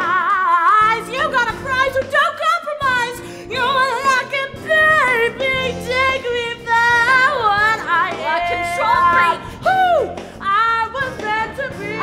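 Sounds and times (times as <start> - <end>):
band accompaniment: 0.0 - 12.0
women singing a duet: 0.0 - 12.0.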